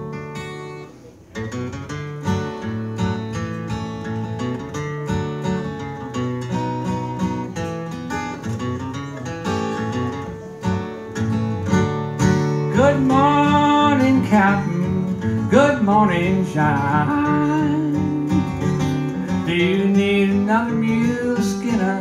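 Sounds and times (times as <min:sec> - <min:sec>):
solo acoustic guitar: 0:00.0 - 0:22.0.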